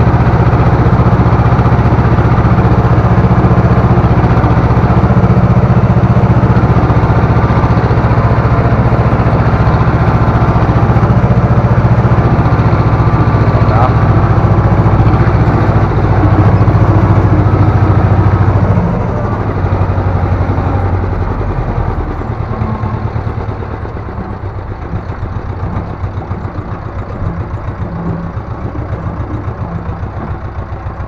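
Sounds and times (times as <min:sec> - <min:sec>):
tractor diesel engine pulsing: 0:00.0 - 0:31.0.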